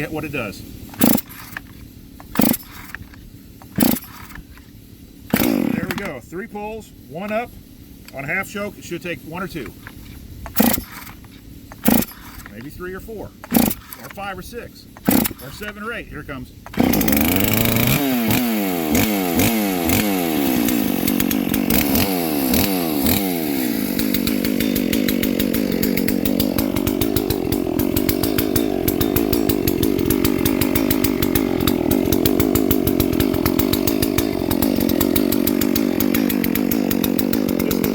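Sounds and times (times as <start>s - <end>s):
chainsaw revving: 0.0s - 4.6s, 5.3s - 6.2s, 9.4s - 14.2s, 15.0s - 15.8s, 16.6s - 37.9s.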